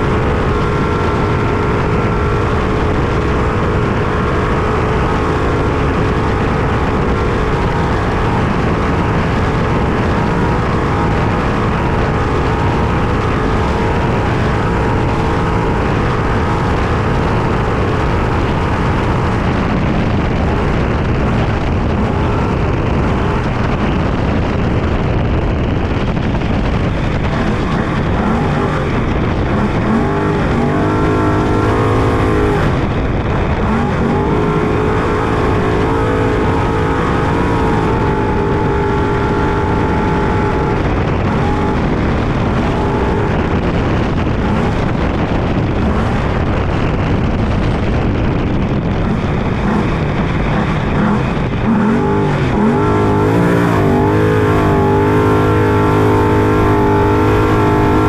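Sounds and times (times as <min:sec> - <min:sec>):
dense rush of noise: 0:00.0 - 0:58.0
truck engine revving hard: 0:00.0 - 0:58.0.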